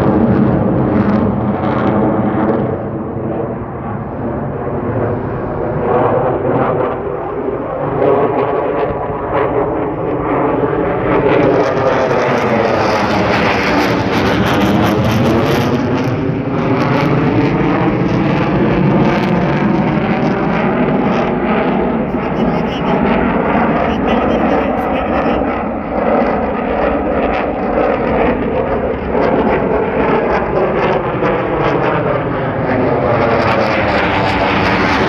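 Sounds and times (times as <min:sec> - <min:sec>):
fighter jet engines roaring: 0:00.0 - 0:35.0.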